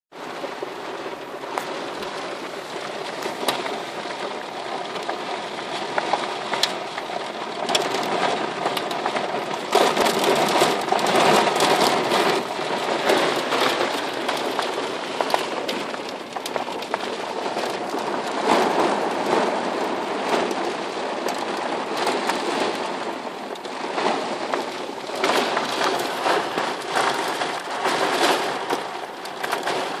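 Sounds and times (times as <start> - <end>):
heavy rain on car roof: 0.1 - 30.0.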